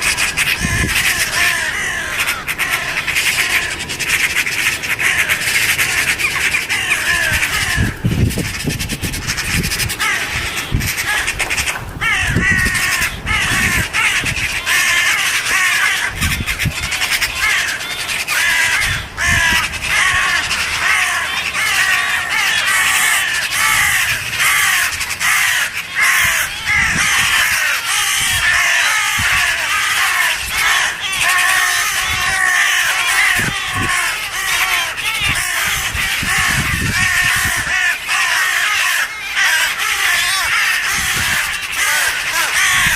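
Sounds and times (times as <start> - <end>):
jackdaws harsh alarm calls: 0.0 - 42.9.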